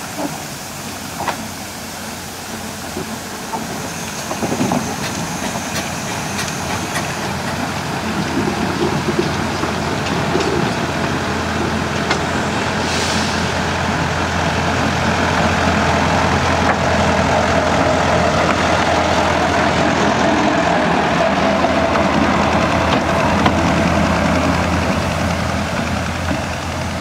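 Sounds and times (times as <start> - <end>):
diesel locomotive engine passing: 0.0 - 27.0.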